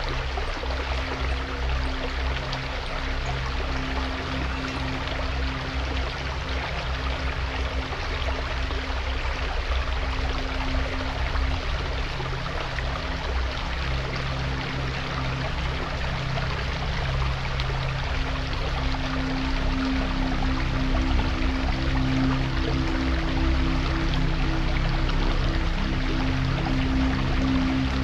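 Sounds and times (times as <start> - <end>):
creek water babbling: 0.0 - 28.0
soft ambient music: 0.0 - 28.0.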